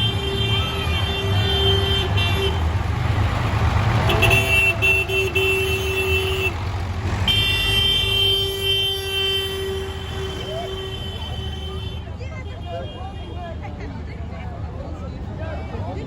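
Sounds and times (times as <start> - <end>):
tractor engines rumbling: 0.0 - 16.0.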